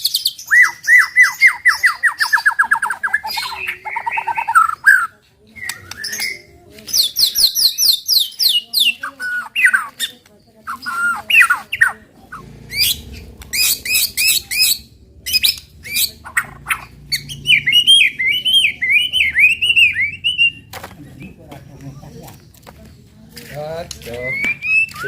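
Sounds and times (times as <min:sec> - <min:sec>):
bird singing varied song: 0:00.0 - 0:25.0.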